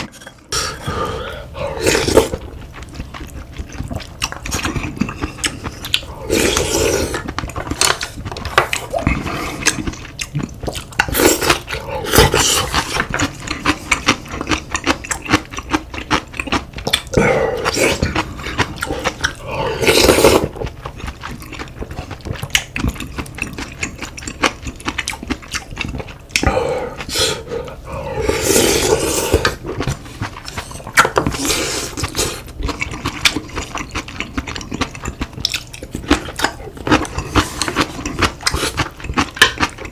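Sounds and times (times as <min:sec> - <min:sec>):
slurping and chewing: 0:00.0 - 0:39.9.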